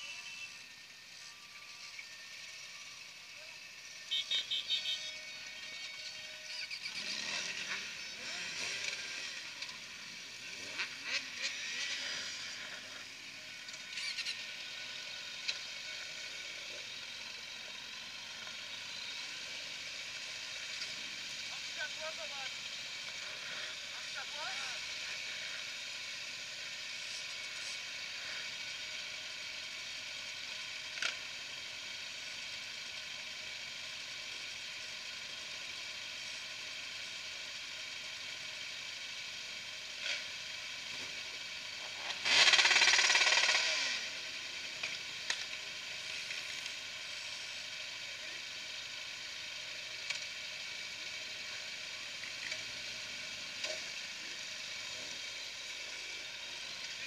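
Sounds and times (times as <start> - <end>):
motorcycles idling: 0.0 - 57.0.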